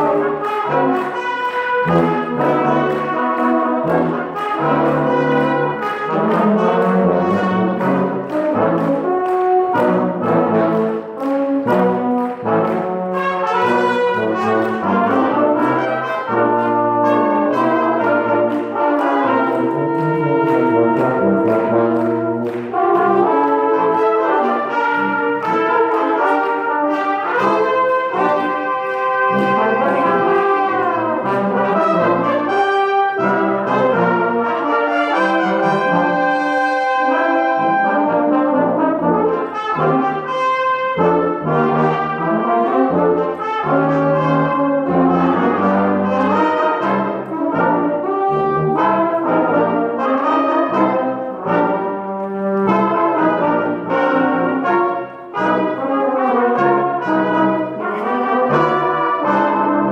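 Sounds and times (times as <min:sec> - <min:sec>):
brass ensemble playing: 0:00.0 - 0:59.9.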